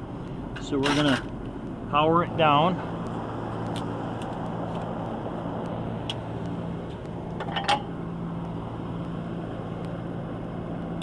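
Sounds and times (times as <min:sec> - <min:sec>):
rooftop air conditioner running: 0:00.0 - 0:11.0.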